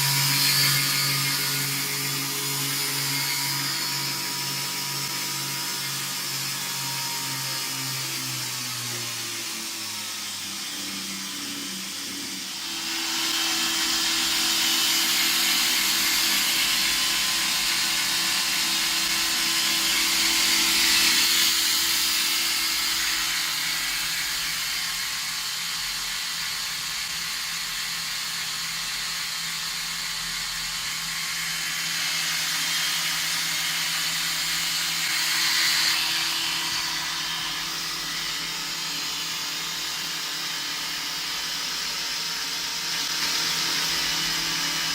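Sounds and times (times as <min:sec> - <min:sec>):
electric motor hum: 0:00.0 - 0:44.9.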